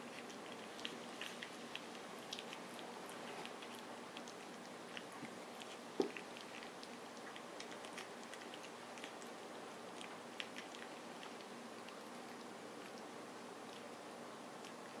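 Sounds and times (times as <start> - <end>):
puppy suckling mouth clicks: 0.1 - 13.1.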